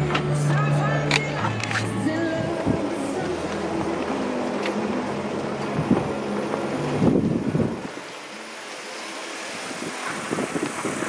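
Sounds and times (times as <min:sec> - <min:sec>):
engine running at low speed: 0:00.0 - 0:11.0.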